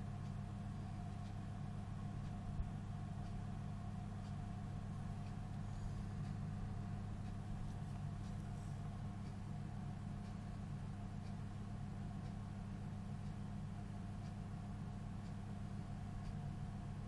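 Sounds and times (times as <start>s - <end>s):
incubator electrical hum: 0.0s - 17.0s.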